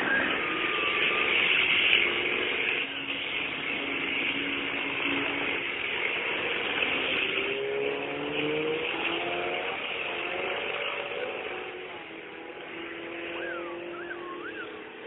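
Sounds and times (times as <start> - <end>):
diesel truck engine accelerating: 0.0 - 15.0.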